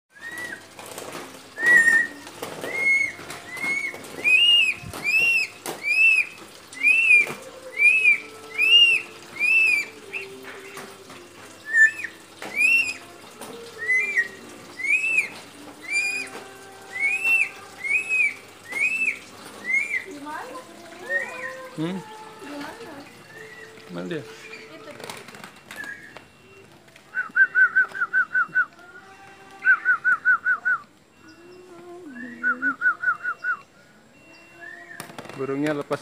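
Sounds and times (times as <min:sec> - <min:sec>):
bird calling: 0:00.1 - 0:36.0.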